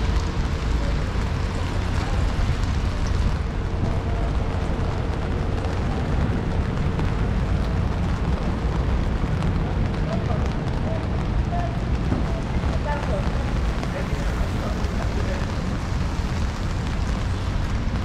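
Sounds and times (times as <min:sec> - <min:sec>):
low rumble of traffic: 0:00.0 - 0:18.0
rain hiss: 0:00.0 - 0:18.0.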